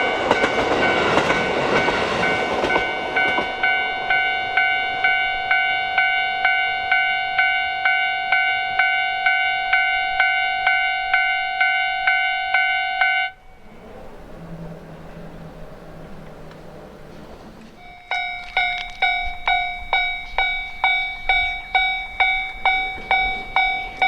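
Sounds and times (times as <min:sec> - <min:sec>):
level crossing alarm ringing: 0:00.0 - 0:13.7, 0:17.8 - 0:24.0
passing train: 0:00.0 - 0:24.0.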